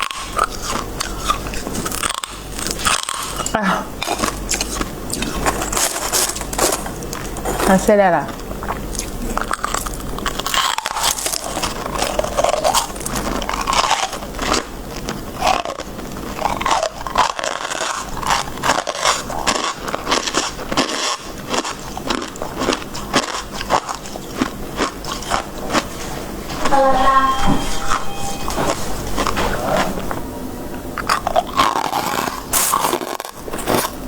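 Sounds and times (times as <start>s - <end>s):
frost being bitten and chewed: 0.0s - 7.7s, 8.3s - 25.9s, 31.0s - 34.0s.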